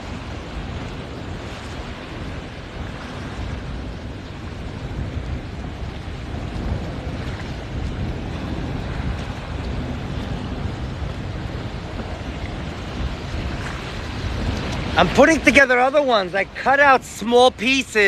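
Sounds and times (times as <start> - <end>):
waves rushing: 0.0 - 18.0
wind buffeting microphone: 0.0 - 18.0.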